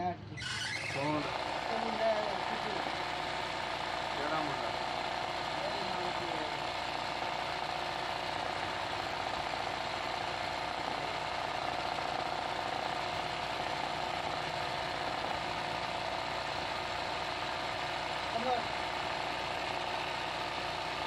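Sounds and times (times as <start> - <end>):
sewing machine running: 0.4 - 21.0.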